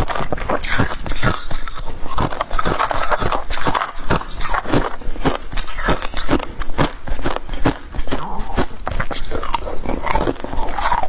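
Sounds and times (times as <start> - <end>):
crunching frost chewed in mouth: 0.0 - 11.0.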